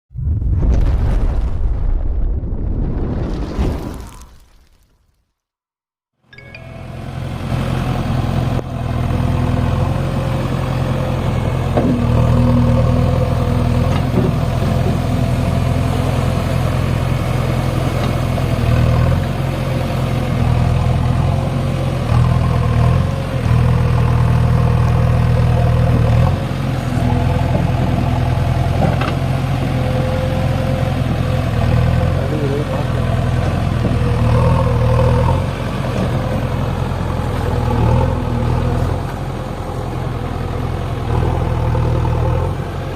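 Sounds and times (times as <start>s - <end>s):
diesel engine running: 6.5s - 42.9s.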